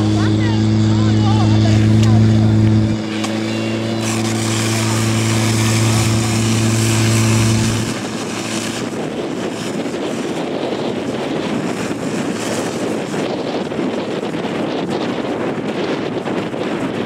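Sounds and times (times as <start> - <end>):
fire pump engine droning: 0.0 - 16.3
wind noise on microphone: 0.0 - 17.0.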